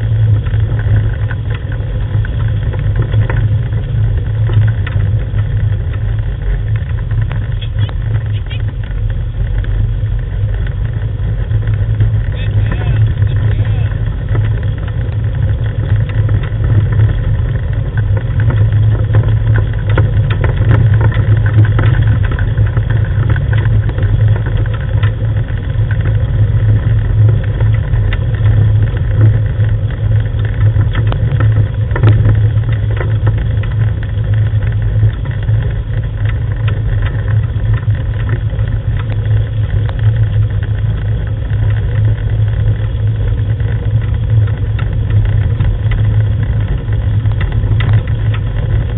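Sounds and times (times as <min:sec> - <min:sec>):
wheeled rig rumbling over gravel: 0:00.0 - 0:48.9.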